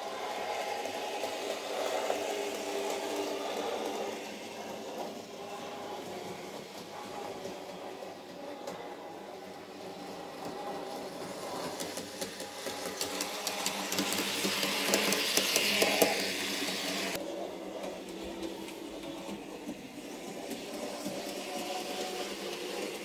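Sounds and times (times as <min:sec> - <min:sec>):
model train motor hum: 0:00.0 - 0:23.0.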